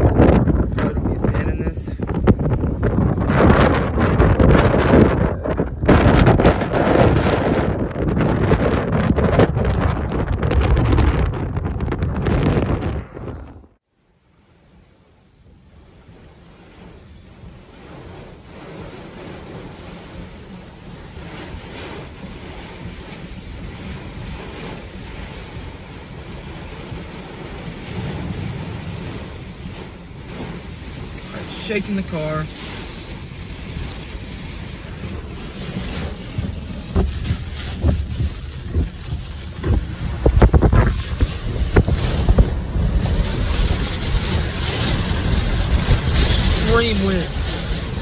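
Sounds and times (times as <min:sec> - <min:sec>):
strong wind rushing around car: 0:00.0 - 0:13.8, 0:14.9 - 0:48.0
wind noise on microphone: 0:00.0 - 0:13.8, 0:14.8 - 0:48.0.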